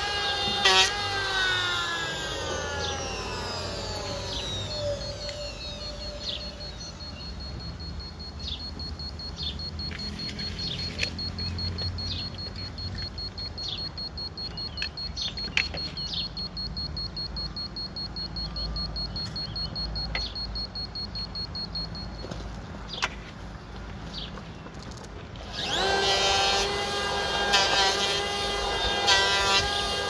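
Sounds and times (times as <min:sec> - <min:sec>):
high-pitched buzzing whine: 0:00.0 - 0:22.4, 0:25.4 - 0:30.0.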